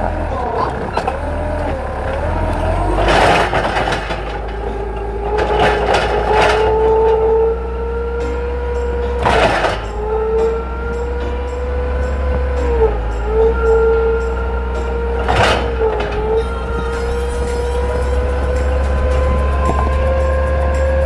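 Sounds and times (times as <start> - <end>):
forklift engine with rising whine: 0.0 - 21.0.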